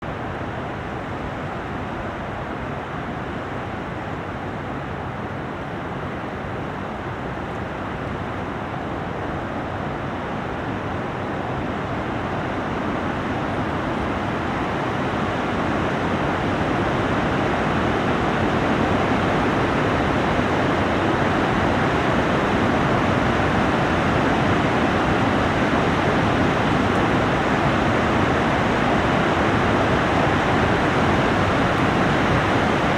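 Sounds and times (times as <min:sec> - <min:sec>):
storm wind through trees: 0:00.0 - 0:32.9.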